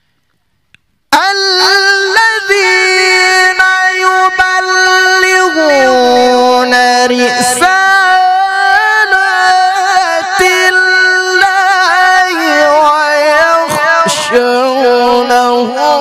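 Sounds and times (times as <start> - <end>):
man reciting melodically: 1.1 - 16.0.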